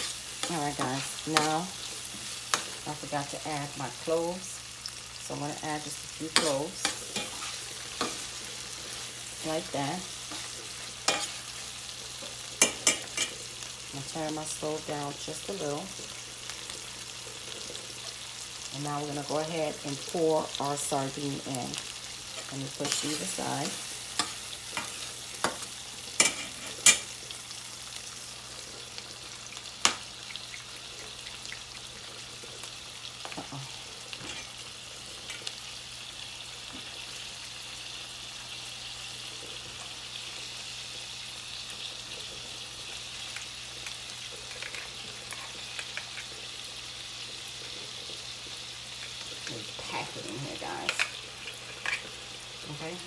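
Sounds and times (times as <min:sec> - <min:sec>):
vegetables sizzling in oil: 0:00.0 - 0:53.0.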